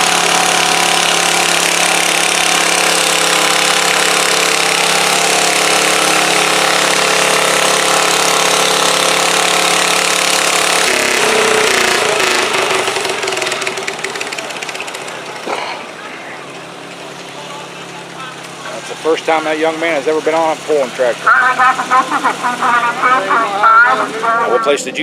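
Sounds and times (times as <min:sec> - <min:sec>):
tractor engine running at high revs: 0:00.0 - 0:24.7.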